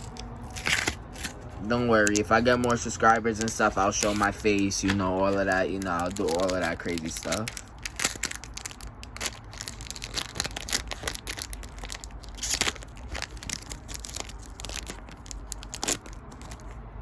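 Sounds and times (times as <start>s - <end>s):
foil wrapper tearing and crinkling: 0.0s - 16.8s.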